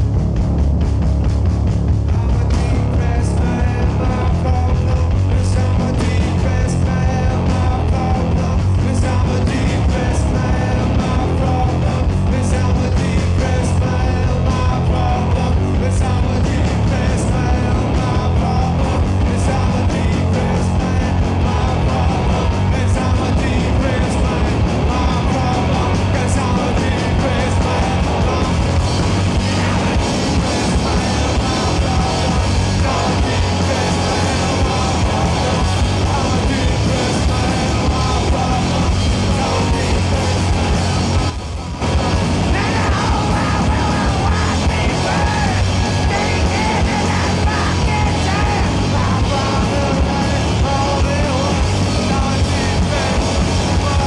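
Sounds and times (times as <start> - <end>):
drum kit: 0.0 - 54.0
electric guitar: 0.0 - 54.0
half-shouted singing: 2.1 - 54.0.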